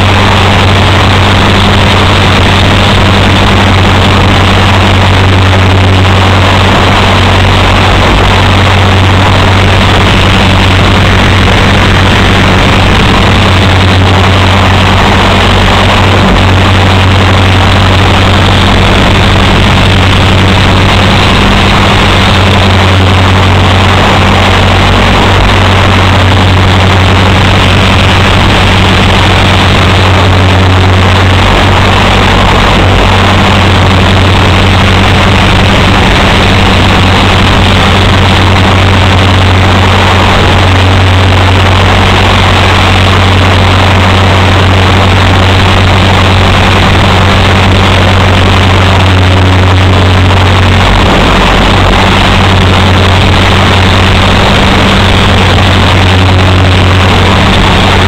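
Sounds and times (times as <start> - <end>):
rc helicopter rotor drone: 0.0 - 58.0.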